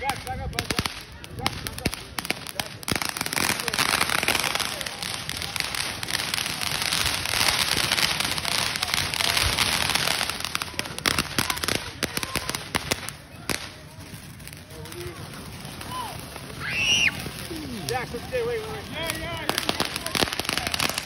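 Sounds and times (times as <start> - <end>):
firework fountain crackling hiss: 0.0 - 21.0
firework sharp cracks: 0.0 - 21.0.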